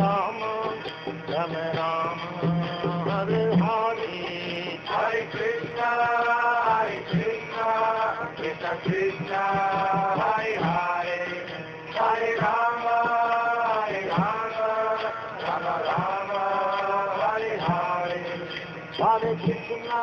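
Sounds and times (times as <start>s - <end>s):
man singing a devotional chant: 0.0s - 20.0s
soft percussion strokes: 0.0s - 20.0s.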